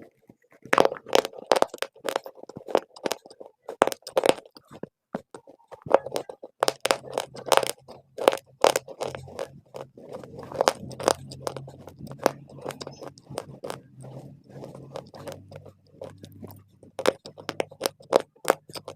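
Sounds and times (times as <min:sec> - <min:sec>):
crunchy chewing: 0:00.0 - 0:18.9.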